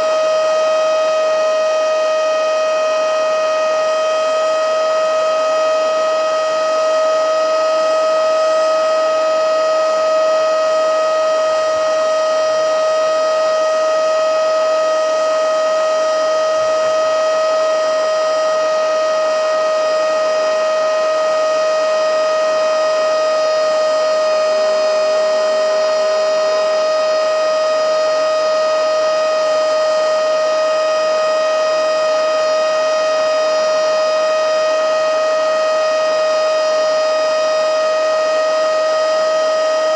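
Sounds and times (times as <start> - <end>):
handheld vacuum whine: 4.4 - 39.9.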